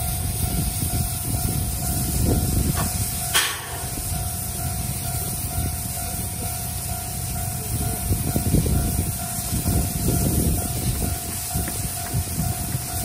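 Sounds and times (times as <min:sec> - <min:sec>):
steam hiss: 0:00.0 - 0:13.0
train wheels rumbling on rails: 0:00.0 - 0:13.0.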